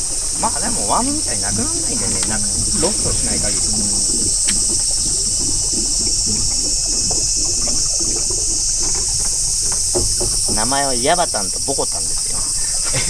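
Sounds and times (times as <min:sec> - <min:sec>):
insect chorus drone: 0:00.0 - 0:13.0
water lapping and trickling: 0:00.0 - 0:13.0.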